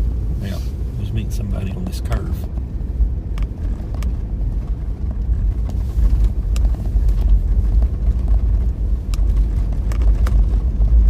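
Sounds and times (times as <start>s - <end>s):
road rumble inside car: 0.0s - 11.0s.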